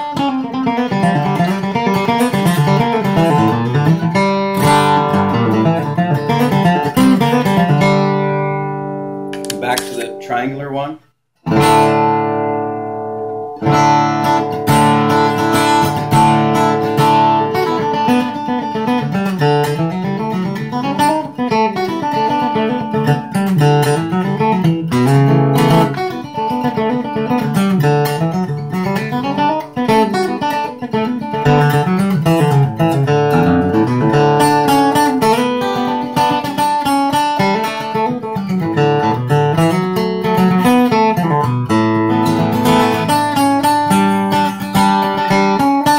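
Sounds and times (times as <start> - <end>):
acoustic guitar strummed chords: 0.0 - 45.9.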